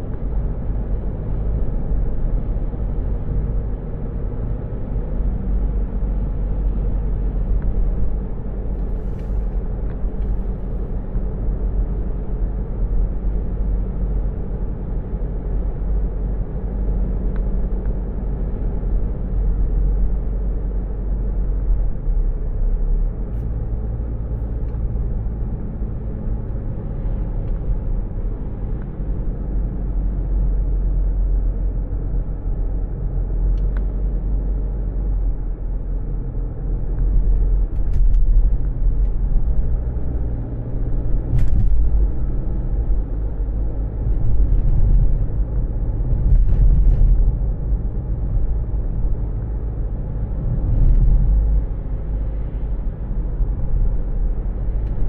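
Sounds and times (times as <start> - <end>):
car engine rumble inside cabin: 0.0 - 55.0
road noise: 0.0 - 55.0.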